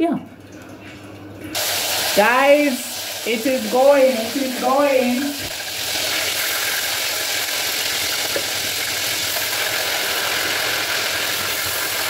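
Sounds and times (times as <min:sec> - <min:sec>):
chicken frying in hot oil: 0:01.5 - 0:12.0.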